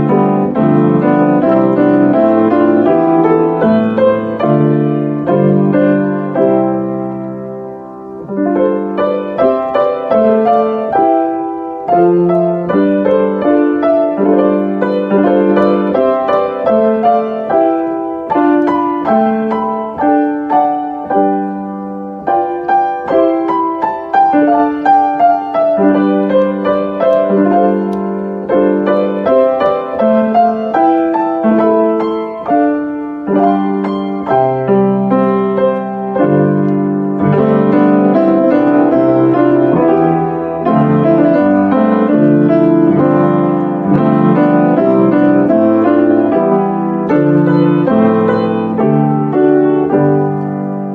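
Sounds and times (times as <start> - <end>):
piano notes and chords: 0.0 - 50.9.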